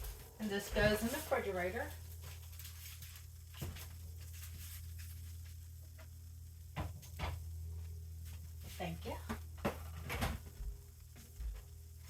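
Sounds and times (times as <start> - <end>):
refrigerator hum: 0.0 - 12.0.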